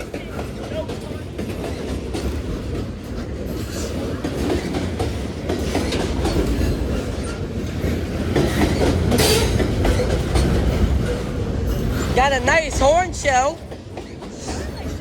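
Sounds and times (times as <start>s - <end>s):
freight train rumbling past: 0.0s - 15.0s
wheels clacking over rail joints: 0.0s - 15.0s.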